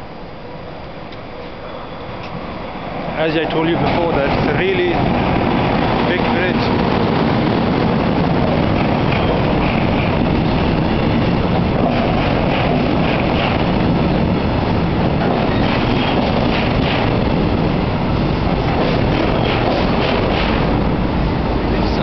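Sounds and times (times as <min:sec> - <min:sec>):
train wheels rumbling on rails: 0:01.1 - 0:22.0.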